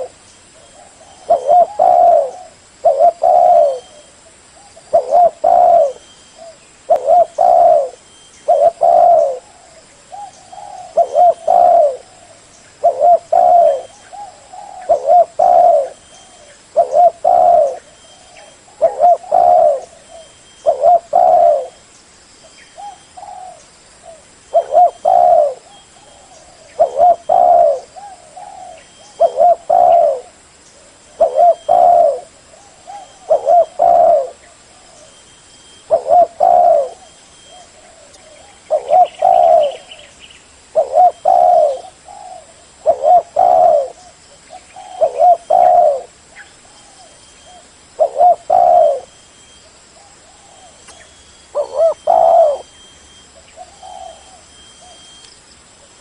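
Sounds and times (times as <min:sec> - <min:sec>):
dove cooing: 0:00.0 - 0:21.8, 0:22.8 - 0:49.2, 0:49.9 - 0:55.2.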